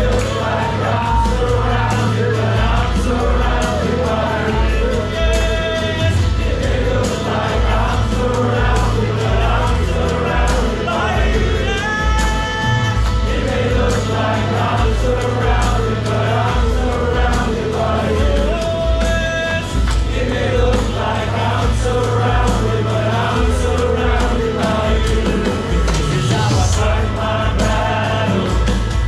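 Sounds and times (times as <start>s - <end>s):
group of voices singing: 0.0s - 29.0s
worship band playing: 0.0s - 29.0s.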